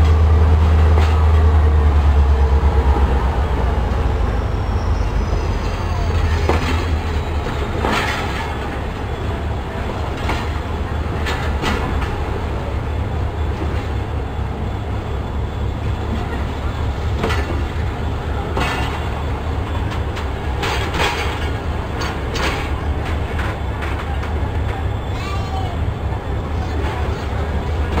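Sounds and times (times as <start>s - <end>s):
wheels clacking over rail joints: 0.0s - 4.1s, 4.7s - 14.2s, 15.8s - 25.9s
train wheels rumbling on track: 0.0s - 28.0s.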